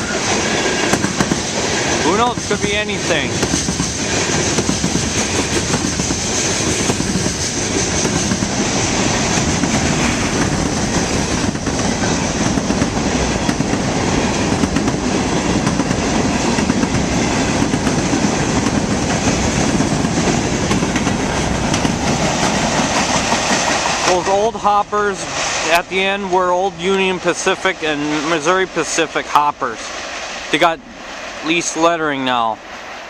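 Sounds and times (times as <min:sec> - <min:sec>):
clickety-clack over rail joints: 0:00.0 - 0:29.4
freight cars rumbling on rails: 0:00.0 - 0:32.9.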